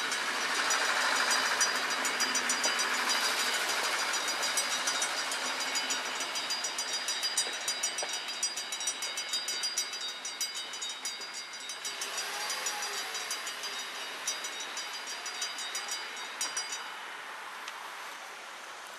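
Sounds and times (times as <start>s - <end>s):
high ringing at level crossing: 0.0s - 17.2s
steam train rolling: 0.0s - 18.9s.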